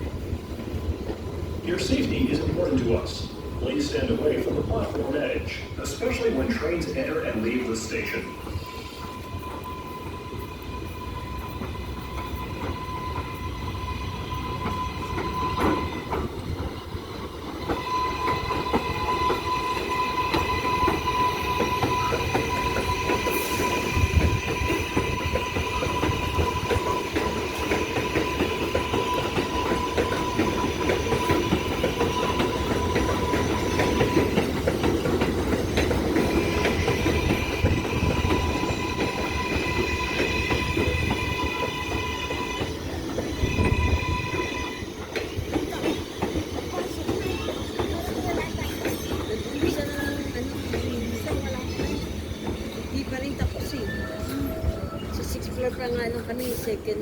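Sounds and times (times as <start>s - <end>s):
subway train running: 0.0s - 57.0s.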